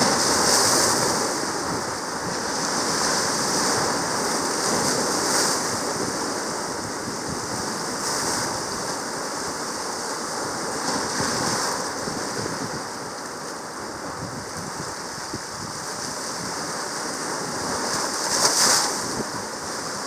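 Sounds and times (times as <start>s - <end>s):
sea waves washing: 0.0s - 20.0s.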